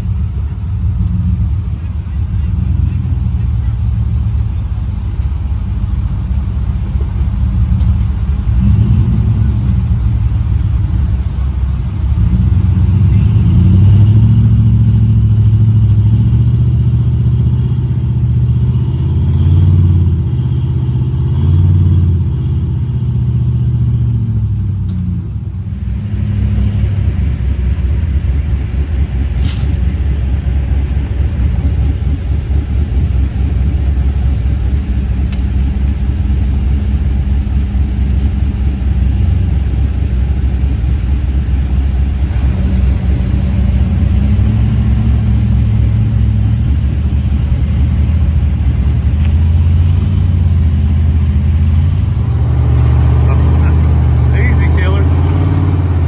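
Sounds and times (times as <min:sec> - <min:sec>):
truck engine revving with knock: 0:00.0 - 0:56.0.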